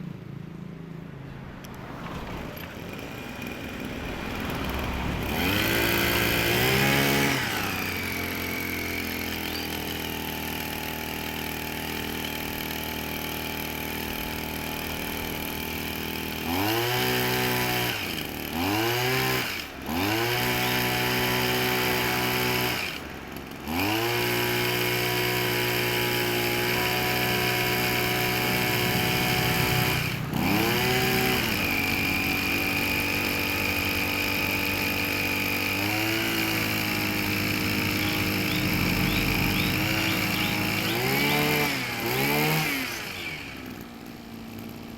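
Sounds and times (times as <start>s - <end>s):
two-stroke engine revving: 1.5s - 44.9s.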